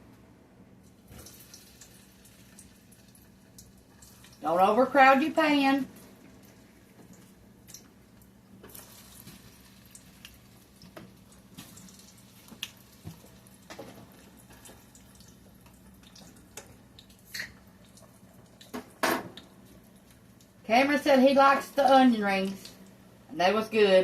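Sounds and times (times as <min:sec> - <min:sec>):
food frying in grease: 0:00.9 - 0:23.1.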